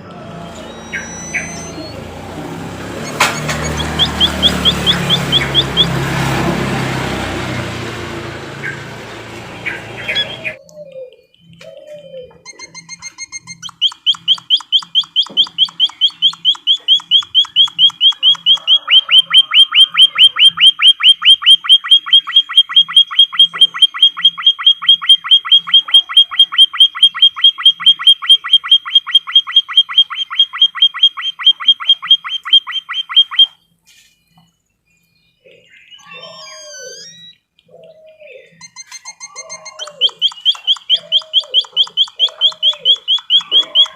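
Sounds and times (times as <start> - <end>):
munia chirping: 0.1 - 2.2, 3.1 - 6.0, 9.6 - 43.9.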